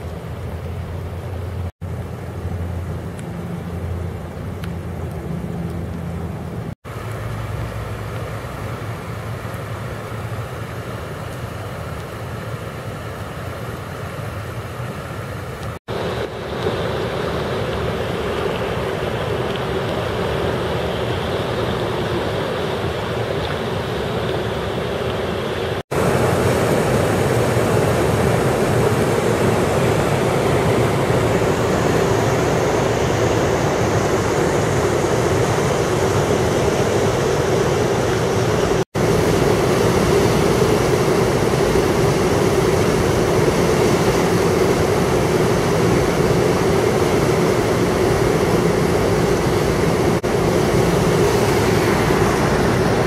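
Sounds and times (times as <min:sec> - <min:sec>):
rushing flood water: 0:00.0 - 0:53.0.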